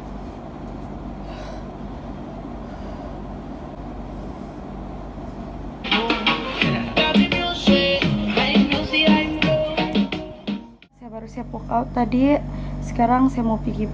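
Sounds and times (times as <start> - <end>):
low hum and rumble: 0.0 - 13.9.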